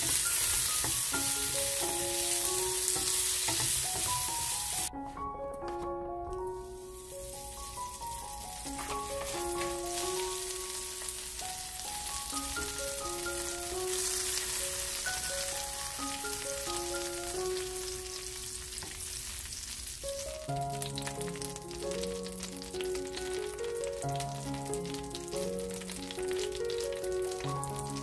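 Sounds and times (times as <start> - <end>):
butter sizzling in a frying pan: 0.0 - 4.9, 6.6 - 28.0
background music simple melody: 0.0 - 28.0.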